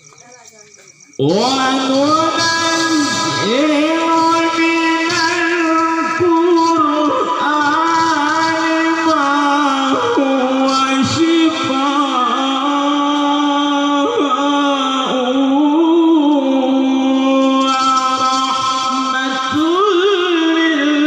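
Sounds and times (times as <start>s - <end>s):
man chanting melodically: 1.2s - 21.0s.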